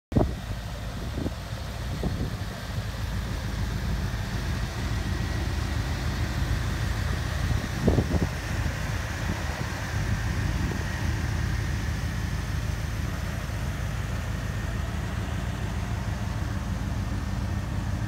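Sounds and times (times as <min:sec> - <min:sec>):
car engine idling: 0:00.1 - 0:18.0
engine knocks: 0:00.1 - 0:18.0.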